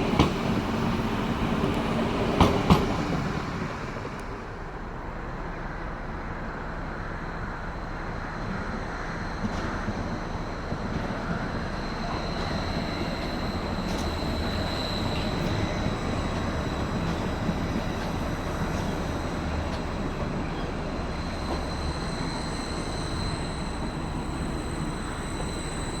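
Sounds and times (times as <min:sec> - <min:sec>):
train rumbling on tracks: 0:00.0 - 0:26.0.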